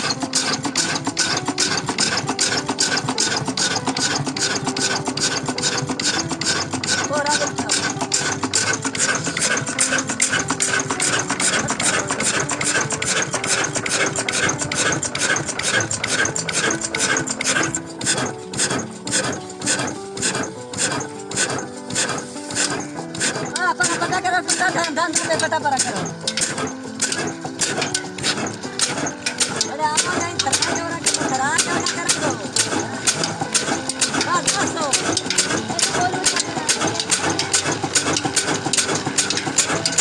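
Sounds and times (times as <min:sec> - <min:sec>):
background music: 0:00.0 - 0:40.0
water pump engine running: 0:00.0 - 0:40.0.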